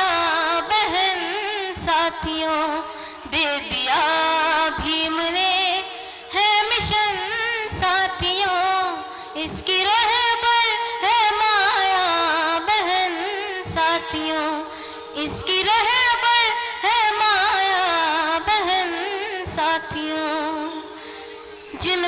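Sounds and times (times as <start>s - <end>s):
boy singing into a microphone: 0.0s - 22.0s.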